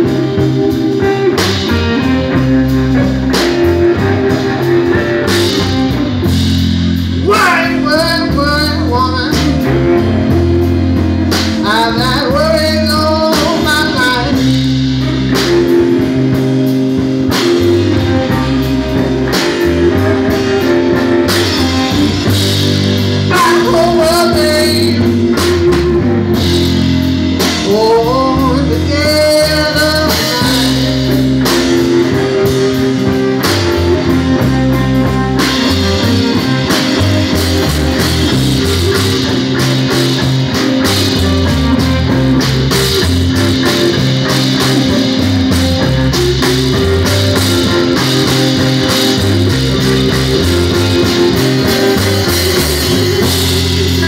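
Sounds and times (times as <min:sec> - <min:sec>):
gliding lead guitar line: 0:00.0 - 0:54.0
live blues band playing: 0:00.0 - 0:54.0.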